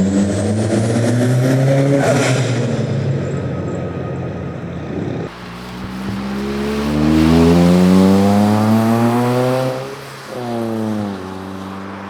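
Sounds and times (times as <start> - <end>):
car accelerating hard: 0.0 - 12.0
rough crackly car exhaust: 0.0 - 12.0.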